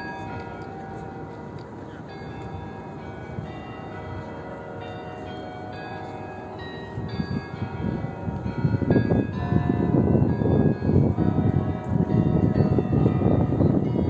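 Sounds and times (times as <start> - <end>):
clock tower bells ringing: 0.0 - 14.0.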